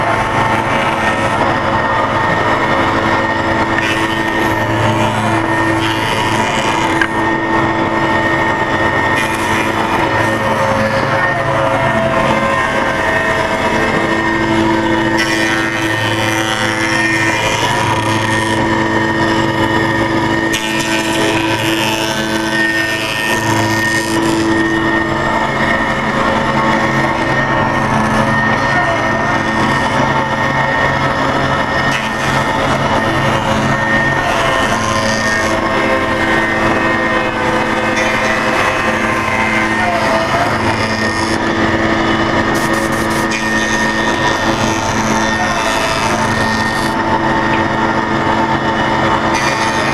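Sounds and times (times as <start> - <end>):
woodworking machine hum and whine: 0.0 - 49.9.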